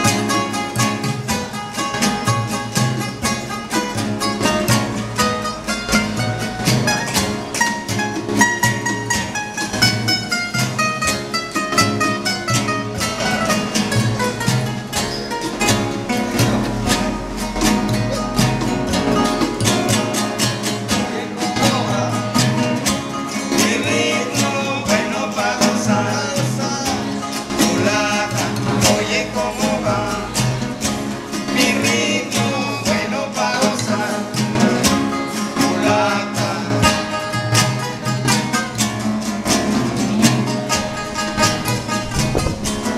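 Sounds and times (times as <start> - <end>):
acoustic guitars strummed and picked: 0.0 - 42.9
voices singing: 0.0 - 42.9.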